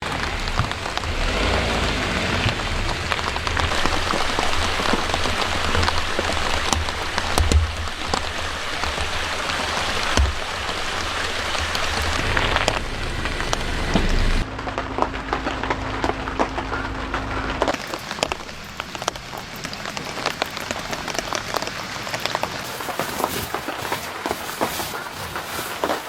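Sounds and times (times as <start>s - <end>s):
rain drops ticking: 0.0s - 26.0s.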